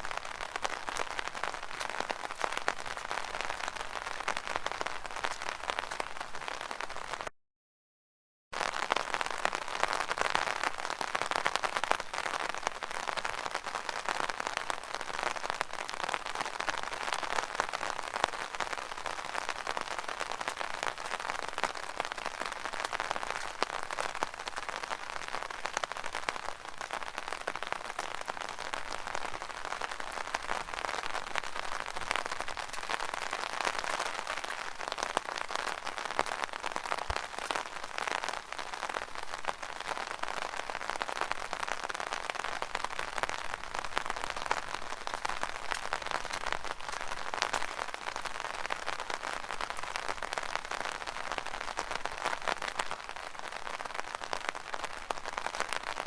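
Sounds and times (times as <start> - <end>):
rain on an umbrella: 0.0 - 7.3, 8.5 - 56.0.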